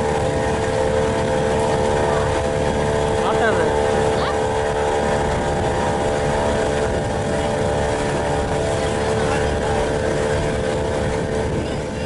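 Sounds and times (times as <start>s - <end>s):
motorboat engine running: 0.0s - 12.0s
rushing water: 0.0s - 12.0s
wind noise: 0.0s - 12.0s.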